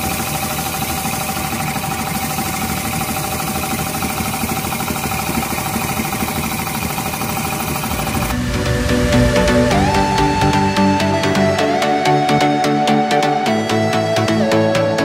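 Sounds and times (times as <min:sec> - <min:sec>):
air compressor running: 0:00.0 - 0:12.6.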